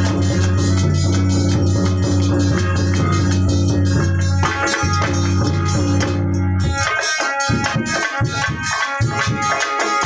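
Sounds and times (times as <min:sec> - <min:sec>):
hand drum strokes: 0:00.0 - 0:10.0.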